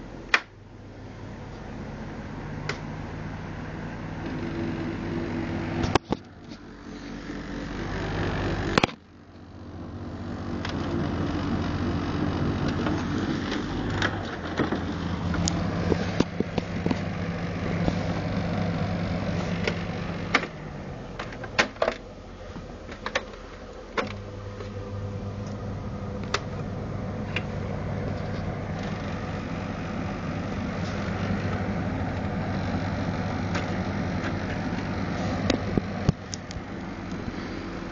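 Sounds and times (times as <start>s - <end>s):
dehumidifier humming: 0.0s - 37.9s.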